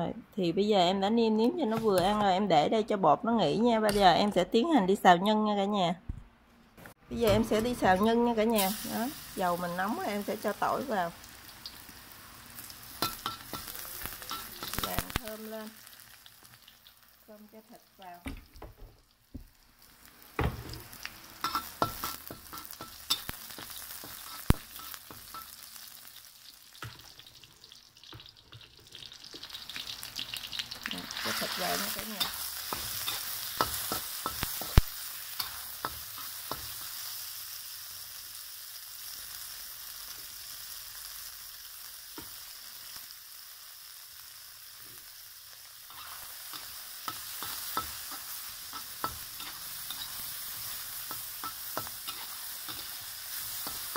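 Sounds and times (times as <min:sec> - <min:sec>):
food sizzling in hot oil: 0:07.1 - 0:53.9.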